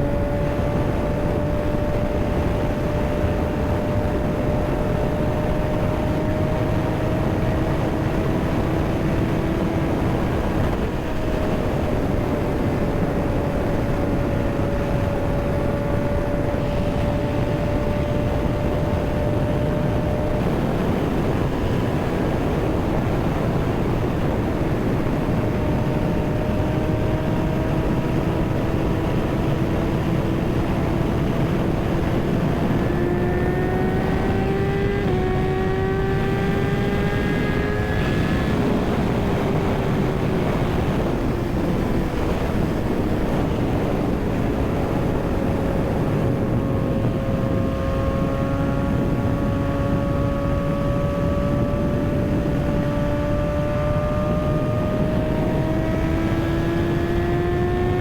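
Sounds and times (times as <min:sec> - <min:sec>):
motorcycle engine running: 0:00.0 - 0:58.0
wind noise rushing: 0:00.0 - 0:58.0.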